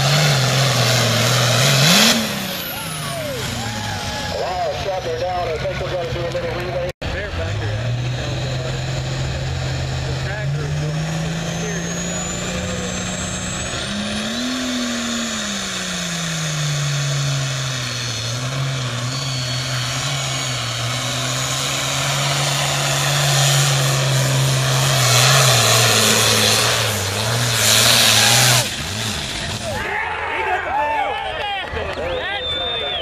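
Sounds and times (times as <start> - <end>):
tractor diesel engine at full throttle: 0.0 - 29.9.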